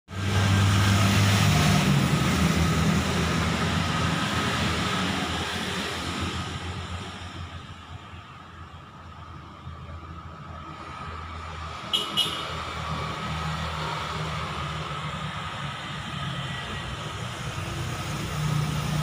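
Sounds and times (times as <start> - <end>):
vehicle engine passing by: 0.1 - 7.5, 10.7 - 19.0.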